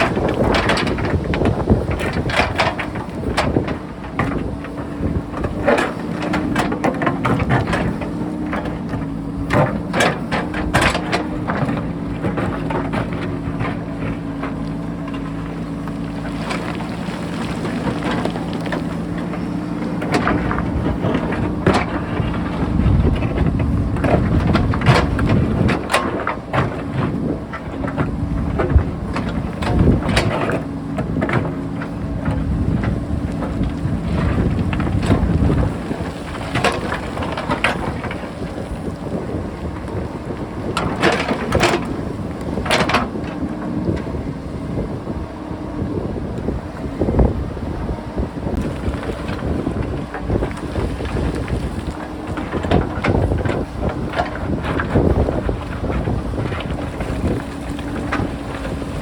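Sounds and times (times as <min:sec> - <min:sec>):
diesel engine running: 0:00.0 - 0:59.0
wind buffeting microphone: 0:00.0 - 0:59.0.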